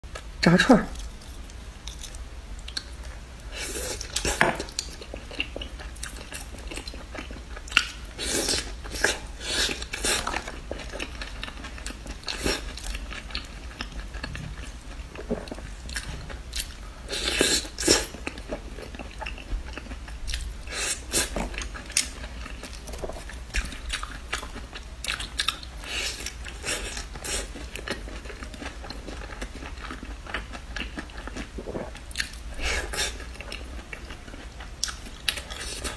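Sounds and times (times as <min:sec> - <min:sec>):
person chewing: 0:00.9 - 0:35.9.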